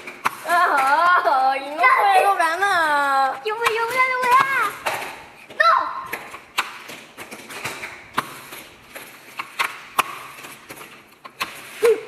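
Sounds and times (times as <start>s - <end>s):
toy cars clicking on plastic track: 0.0s - 5.3s, 6.1s - 12.0s.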